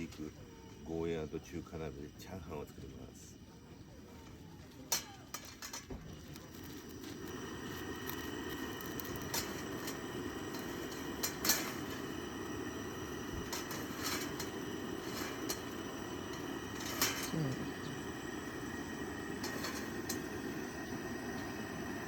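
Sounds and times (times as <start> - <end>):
gas burner roaring: 0.0 - 22.0.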